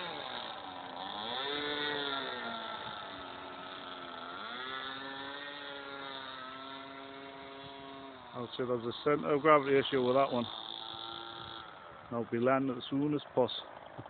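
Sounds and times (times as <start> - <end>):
model plane engine: 0.0 - 14.0.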